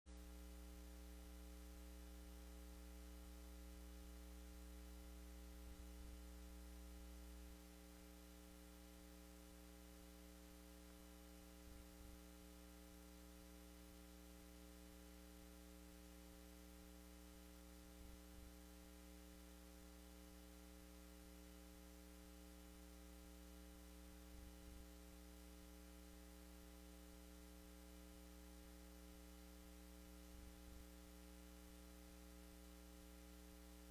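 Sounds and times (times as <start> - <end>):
faint electrical hum with hiss: 0.1 - 33.9.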